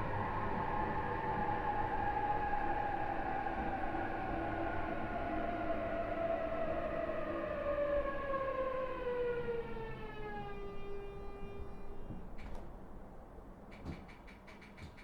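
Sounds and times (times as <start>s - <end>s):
electric train motor whine: 0.0s - 12.4s.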